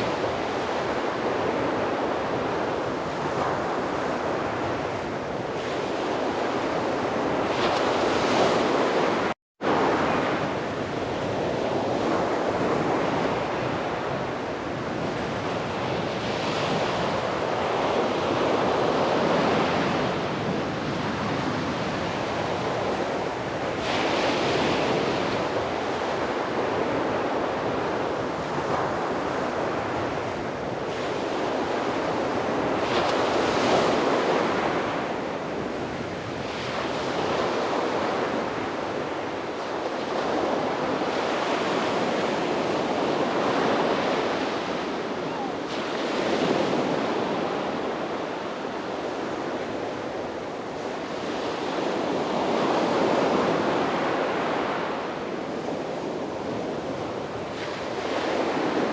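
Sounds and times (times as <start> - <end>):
sea waves breaking on beach: 0.0 - 58.9
wind on microphone: 0.0 - 58.9.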